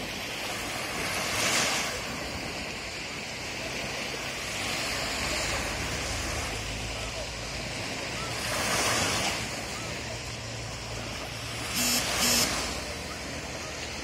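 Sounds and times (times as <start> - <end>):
sea waves washing on sand: 0.0 - 14.0.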